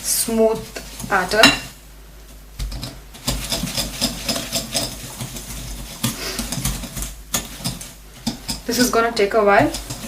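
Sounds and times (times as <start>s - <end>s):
beating mixture in a bowl: 0.0s - 10.0s.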